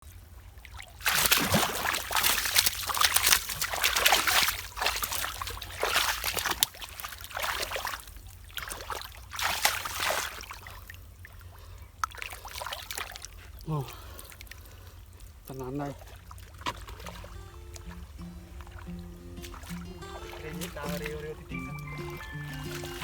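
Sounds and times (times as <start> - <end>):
muddy water sloshing: 0.1 - 23.0.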